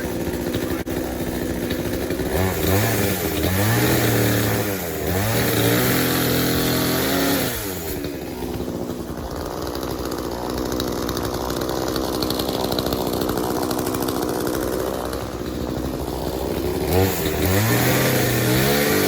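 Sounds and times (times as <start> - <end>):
chainsaw idling and revving: 0.0 - 19.0.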